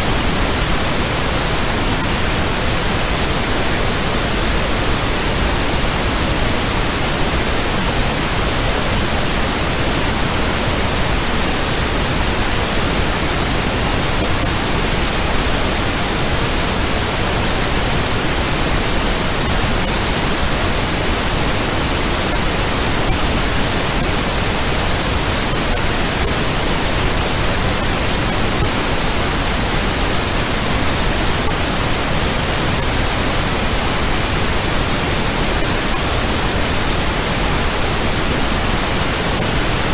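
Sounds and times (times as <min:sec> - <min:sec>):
static-like noise hiss: 0:00.0 - 0:39.9.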